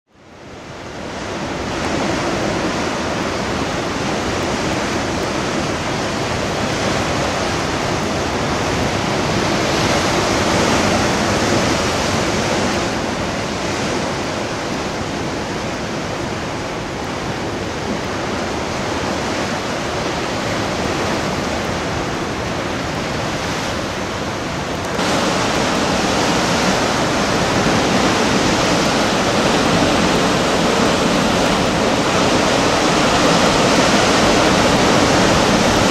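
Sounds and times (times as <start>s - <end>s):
surf breaking on rocky shore: 0.5s - 35.9s.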